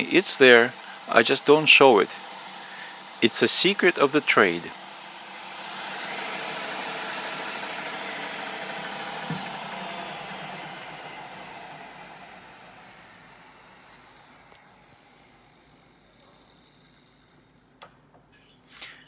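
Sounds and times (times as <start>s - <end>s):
router motor whine: 0.0s - 17.6s.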